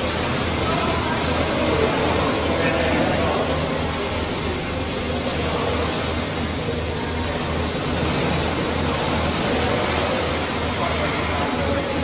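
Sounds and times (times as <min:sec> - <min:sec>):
machine noise with pulsing throb: 0:00.0 - 0:12.0.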